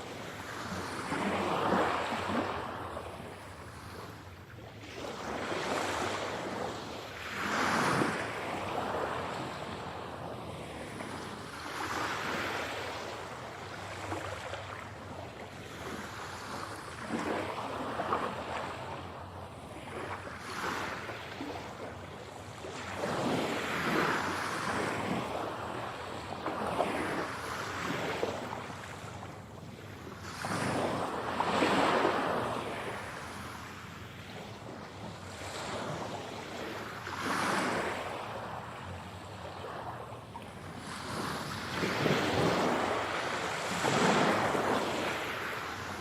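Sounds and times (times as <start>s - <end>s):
sea waves breaking on shore: 0.0s - 46.0s.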